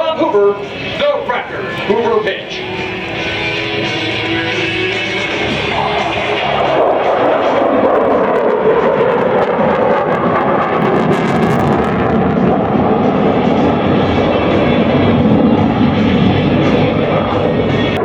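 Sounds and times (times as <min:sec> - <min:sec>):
aircraft engine roar: 0:00.0 - 0:18.0.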